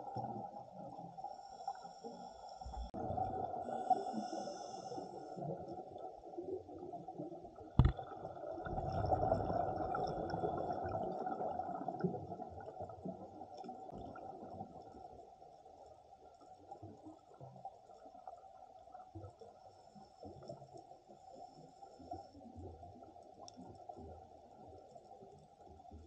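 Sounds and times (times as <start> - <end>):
underwater rumble and gurgling: 0.0 - 26.0.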